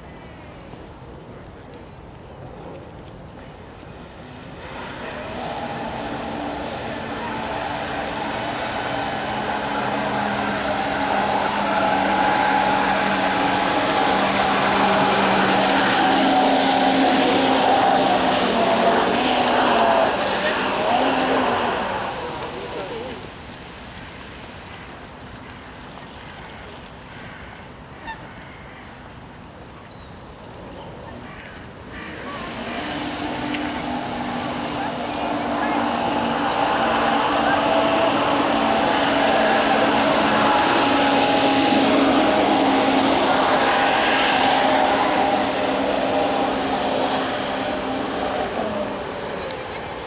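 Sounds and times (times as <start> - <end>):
rushing water: 0.0 - 28.3, 30.4 - 50.0.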